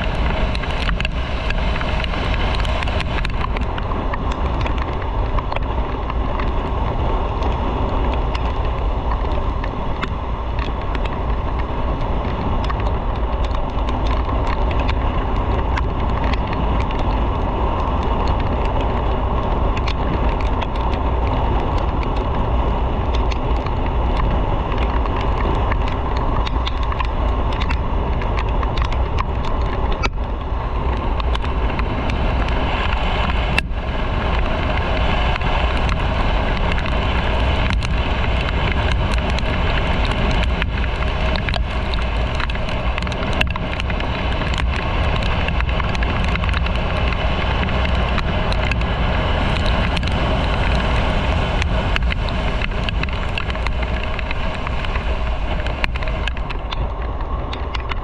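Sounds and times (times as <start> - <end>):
wind on microphone: 0.0 - 58.0.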